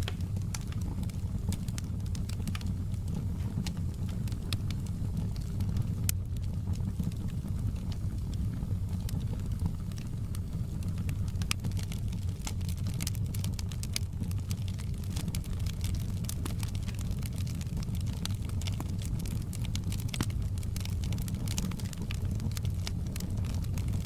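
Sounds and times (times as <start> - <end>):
fire rumbling: 0.0 - 24.0
logs crackling and popping: 0.0 - 24.0.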